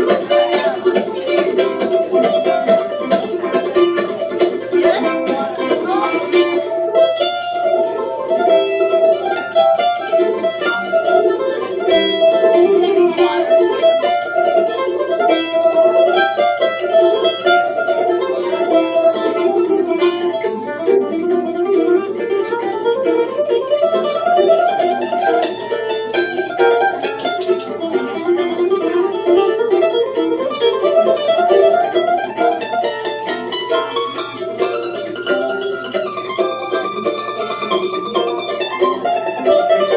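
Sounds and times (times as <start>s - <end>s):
mandolin playing: 0.0s - 39.9s.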